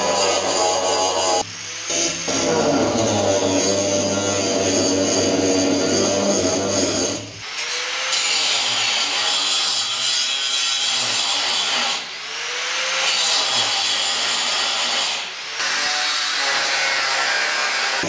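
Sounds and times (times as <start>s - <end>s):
angle grinder grinding steel: 0.0s - 18.0s.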